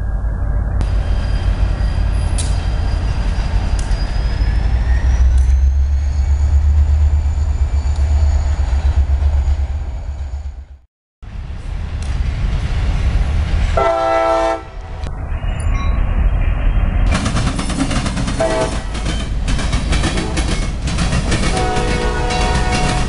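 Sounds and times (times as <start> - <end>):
diesel locomotive rumbling: 0.0 - 23.0.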